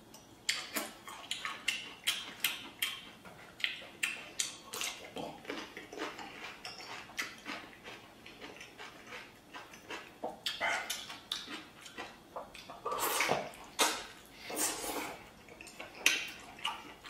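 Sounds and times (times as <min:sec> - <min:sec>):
man chewing wetly: 0:00.1 - 0:17.0.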